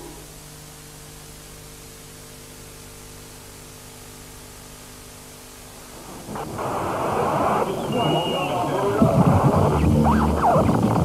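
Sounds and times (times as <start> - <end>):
faint low hum: 0.0 - 11.0
steady hiss: 0.0 - 11.0.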